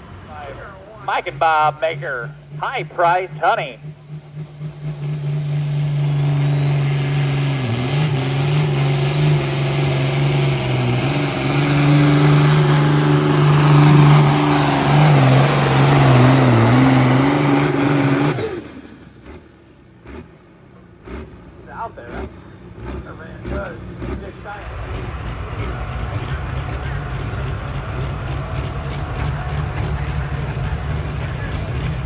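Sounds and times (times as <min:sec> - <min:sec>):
tractor diesel engine at full throttle: 0:00.0 - 0:32.0.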